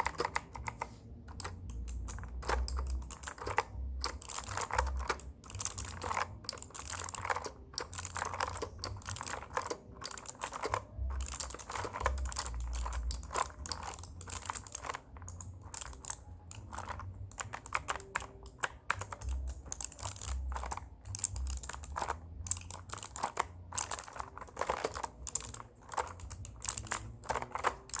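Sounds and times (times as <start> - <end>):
typing on computer keyboard: 0.0 - 28.0.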